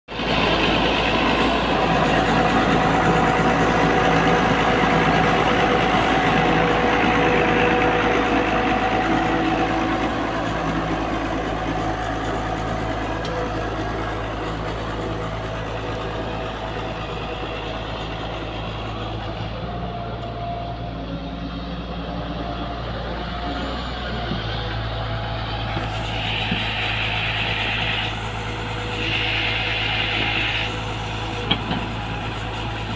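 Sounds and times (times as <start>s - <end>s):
excavator diesel engine running: 0.1s - 32.9s.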